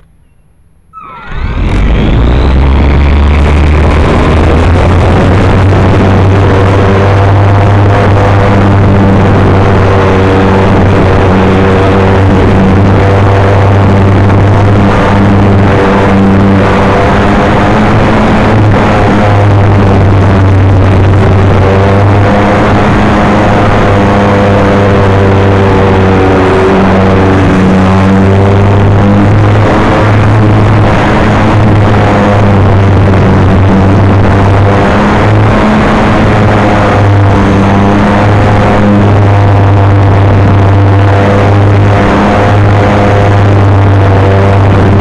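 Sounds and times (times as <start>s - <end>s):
model airplane motor droning: 1.0s - 45.0s.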